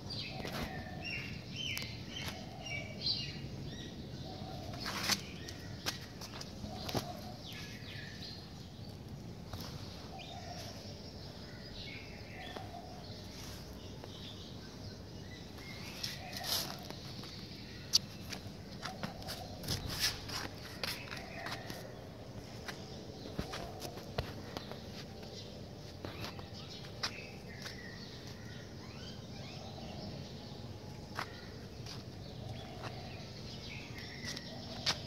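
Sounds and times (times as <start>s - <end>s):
small birds chirping: 0.0s - 35.0s
steady outdoor background: 0.0s - 35.0s.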